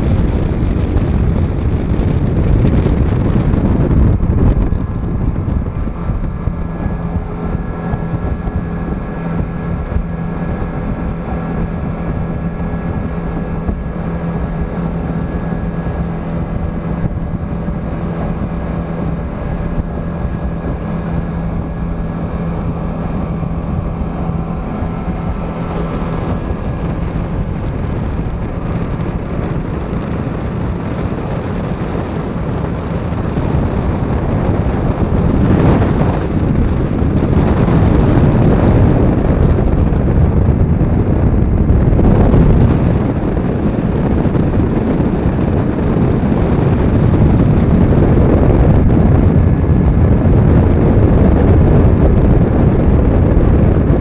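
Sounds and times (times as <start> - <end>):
boat engine droning: 0.0 - 54.0
wind buffeting microphone: 0.0 - 54.0.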